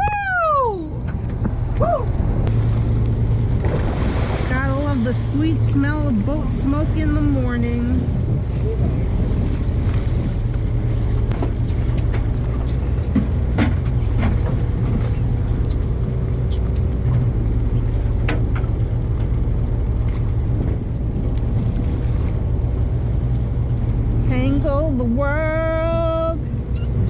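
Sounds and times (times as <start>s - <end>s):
boat engine drone: 0.0s - 27.0s
sea wash: 0.0s - 27.0s
wind: 0.0s - 27.0s.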